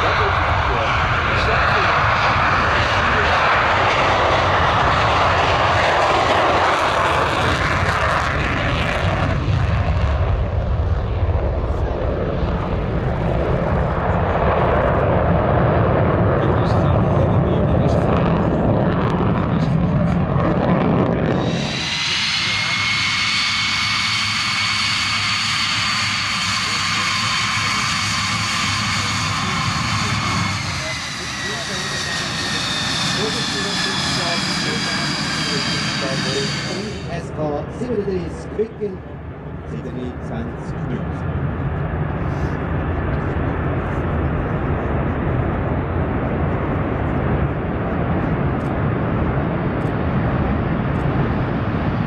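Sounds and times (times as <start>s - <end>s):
jet engine roaring: 0.0s - 52.0s.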